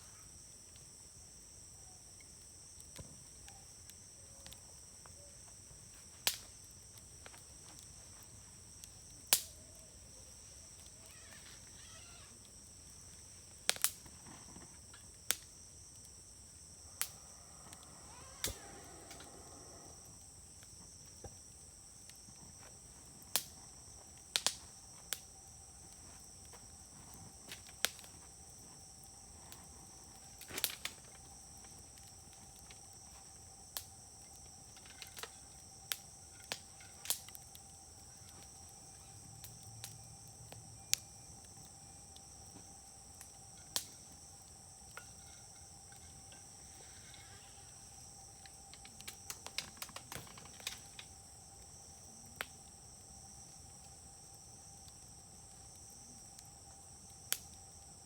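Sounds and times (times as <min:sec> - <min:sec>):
firewood crackling and popping: 0:00.2 - 0:58.0
high insect chirring: 0:07.6 - 0:29.3, 0:30.1 - 0:57.7.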